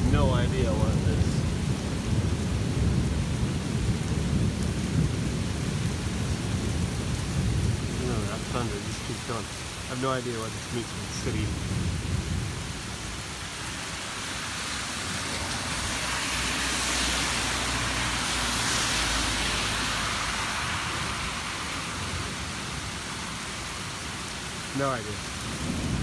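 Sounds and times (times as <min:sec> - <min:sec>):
car tyres spraying through water: 0:00.0 - 0:26.0
heavy rain pouring: 0:00.0 - 0:26.0.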